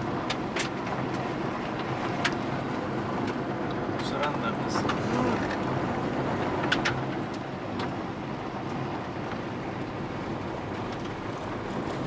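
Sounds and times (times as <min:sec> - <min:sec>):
engine and tyre rumble: 0:00.0 - 0:12.0
gravel crackling under tyres: 0:00.0 - 0:12.0.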